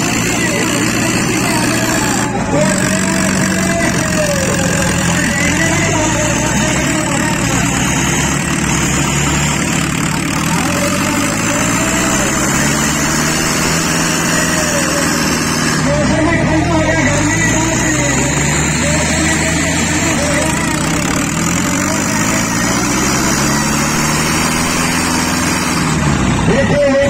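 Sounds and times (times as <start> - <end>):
diesel tractors running under load: 0.0 - 27.0.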